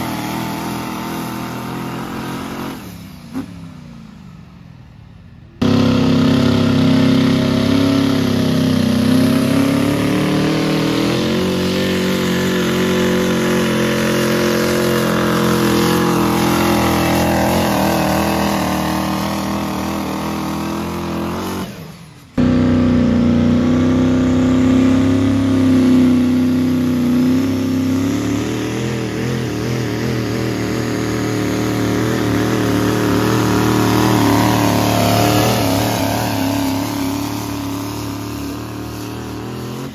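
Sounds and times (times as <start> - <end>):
pickup truck engine revving: 0.0 - 3.5, 5.6 - 39.9
diesel truck engine revving: 0.0 - 3.8, 5.6 - 39.9.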